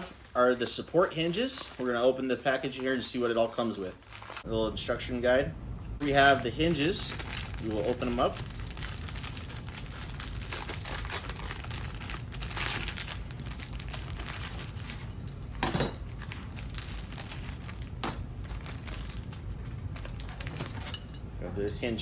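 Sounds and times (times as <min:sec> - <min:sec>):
packaging crinkling and rustling: 0:00.0 - 0:04.5, 0:06.1 - 0:21.1.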